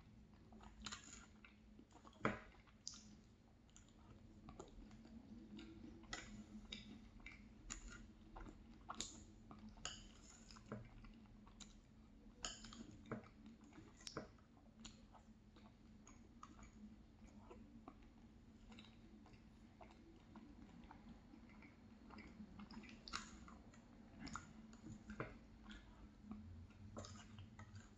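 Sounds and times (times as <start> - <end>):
wet chewing sounds: 0.0 - 27.9.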